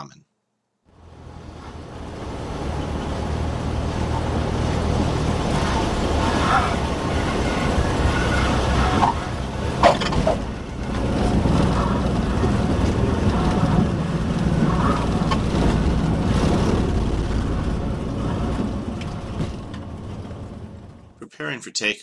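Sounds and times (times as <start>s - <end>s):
wind noise: 1.4s - 20.9s.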